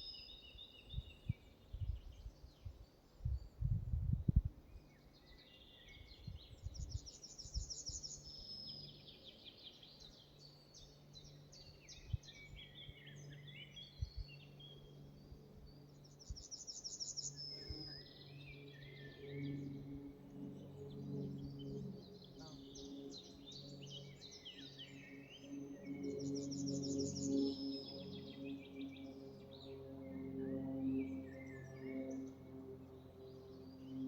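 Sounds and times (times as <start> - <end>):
bird song with high trill: 0.0 - 34.0
songbirds singing: 0.0 - 34.0.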